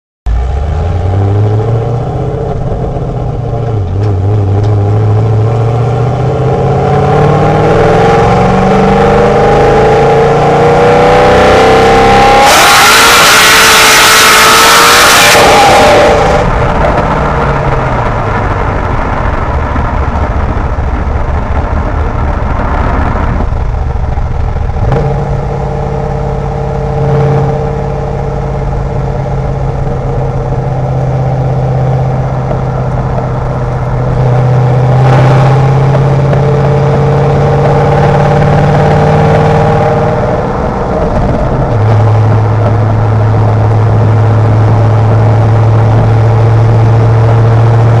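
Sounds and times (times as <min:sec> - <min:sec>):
car engine droning: 0:00.3 - 0:48.0.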